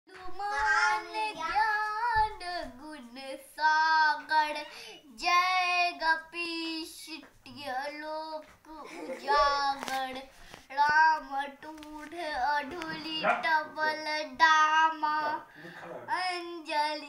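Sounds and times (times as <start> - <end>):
boy singing alone: 0.1 - 17.0.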